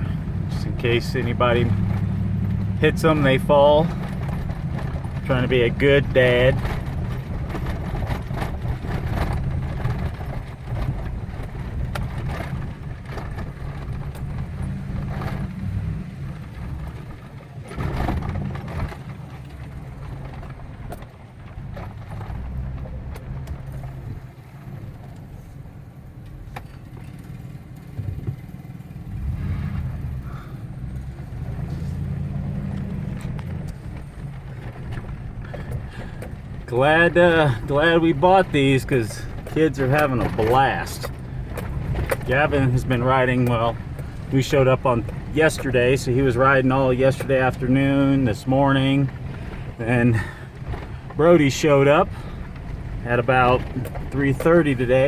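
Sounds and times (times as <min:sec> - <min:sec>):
knocks and rattles: 0:00.0 - 0:25.3, 0:26.4 - 0:55.0
truck engine and tyre rumble: 0:00.0 - 0:55.0.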